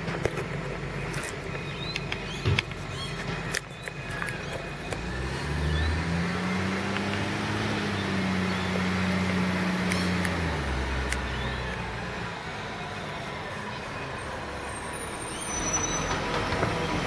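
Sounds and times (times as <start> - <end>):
garbage truck diesel engine: 0.0 - 17.0.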